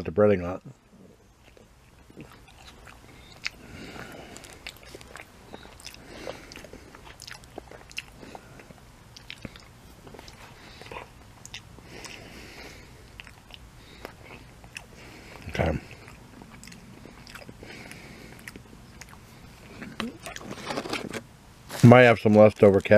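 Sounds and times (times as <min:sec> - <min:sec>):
person chewing food: 0:00.9 - 0:20.9.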